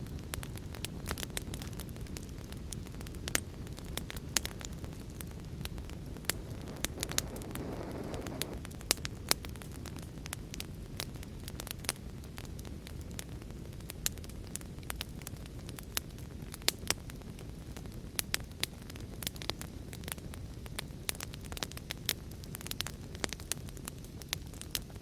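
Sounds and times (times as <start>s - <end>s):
low rushing of flames: 0.0s - 25.0s
wood fire crackling: 0.0s - 25.0s.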